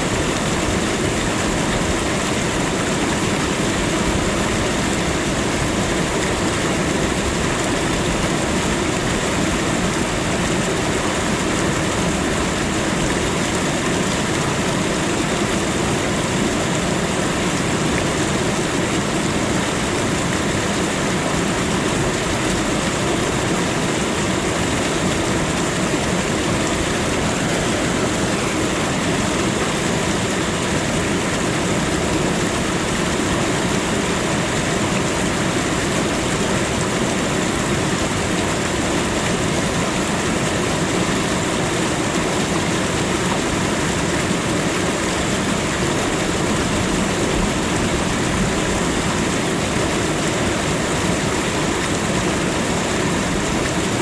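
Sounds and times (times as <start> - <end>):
waterfall crashing: 0.0 - 54.0.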